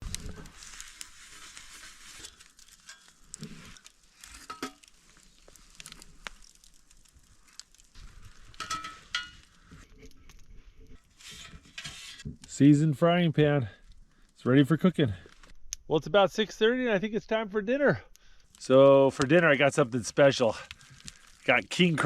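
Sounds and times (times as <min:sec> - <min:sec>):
campfire crackles: 0:00.0 - 0:22.0.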